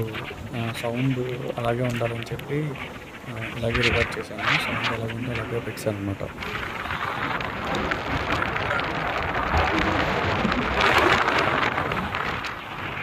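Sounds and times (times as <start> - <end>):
car tyre noise: 0.0 - 13.0
wind rushing: 0.0 - 13.0.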